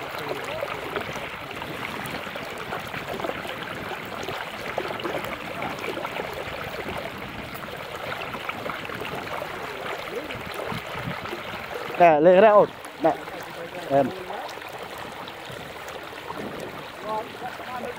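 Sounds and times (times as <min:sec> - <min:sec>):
water rushing and trickling: 0:00.0 - 0:17.9.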